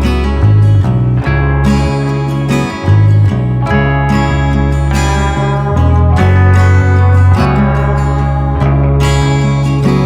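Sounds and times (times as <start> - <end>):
acoustic guitar song with bass: 0.0 - 10.0.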